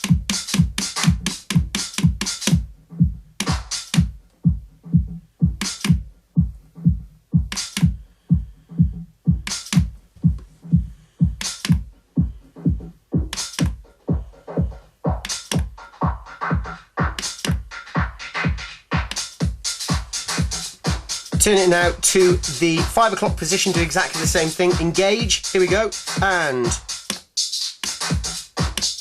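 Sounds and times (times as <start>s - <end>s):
filtered house music kick drum: 0.0s - 29.0s.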